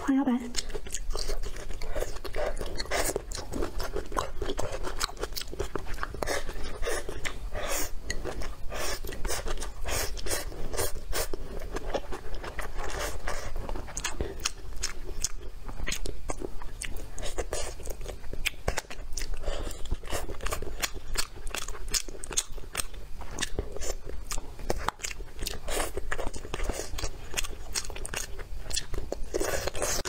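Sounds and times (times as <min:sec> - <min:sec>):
person chewing crunchy food: 0:00.5 - 0:30.0.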